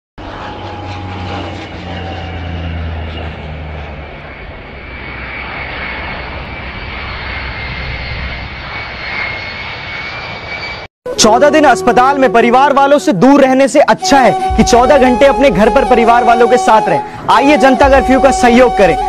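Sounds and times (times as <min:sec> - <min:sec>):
high steady whine: 0:00.2 - 0:19.0
low-flying airplane drone: 0:00.2 - 0:19.0.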